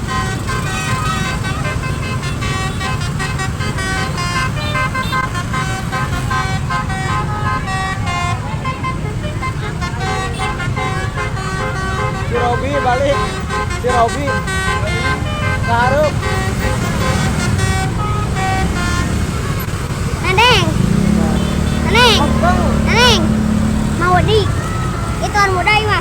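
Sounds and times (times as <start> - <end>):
multi-tone vehicle horn tune: 0.0 - 26.0
road noise: 0.0 - 26.0
vehicle engine rumble: 0.0 - 26.0.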